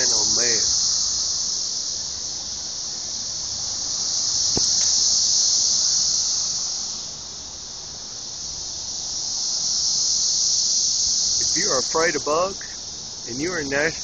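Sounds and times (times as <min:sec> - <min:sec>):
cicadas droning: 0:00.0 - 0:14.0.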